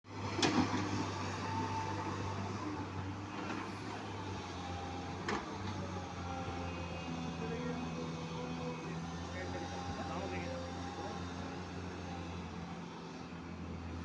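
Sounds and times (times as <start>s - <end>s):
heavy diesel engine running: 0.1s - 14.0s.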